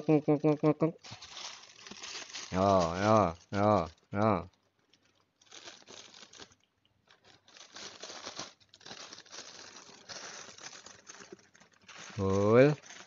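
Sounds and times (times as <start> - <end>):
plastic bag crinkling: 1.0 - 13.0.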